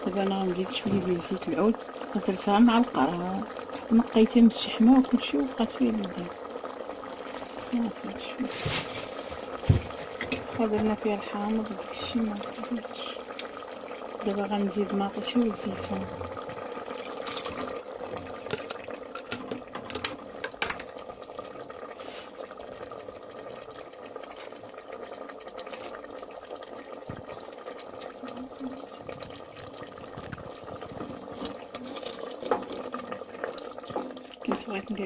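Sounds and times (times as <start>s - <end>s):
stew simmering and bubbling: 0.0s - 35.0s.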